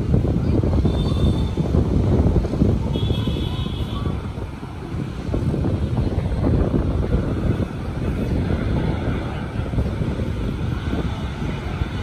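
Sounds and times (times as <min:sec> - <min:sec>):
distant jet engines rumbling: 0:00.0 - 0:12.0
wind buffeting microphone: 0:00.0 - 0:12.0.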